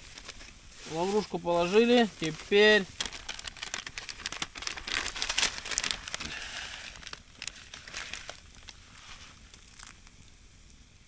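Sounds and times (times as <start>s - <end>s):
plastic packet crinkling: 0.0s - 10.1s.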